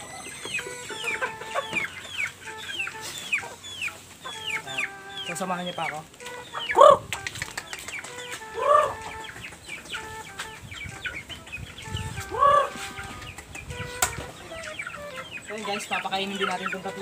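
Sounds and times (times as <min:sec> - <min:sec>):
chickens calling: 0:00.0 - 0:17.0
chicks peeping: 0:00.0 - 0:17.0.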